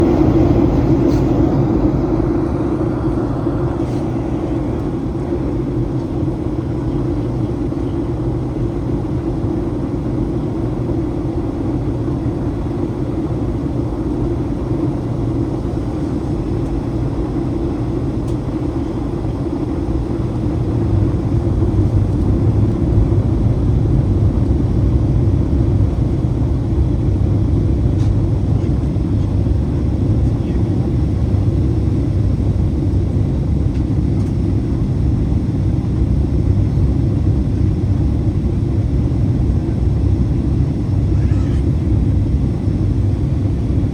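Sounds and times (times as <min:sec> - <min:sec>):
airliner cabin engine roar: 0:00.0 - 0:43.9.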